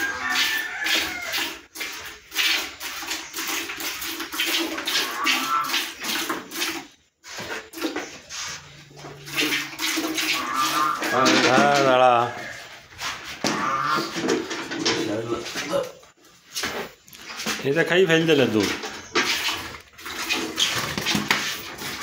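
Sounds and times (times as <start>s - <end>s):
milk squirting into steel pail: 0.0s - 15.7s, 18.3s - 22.0s.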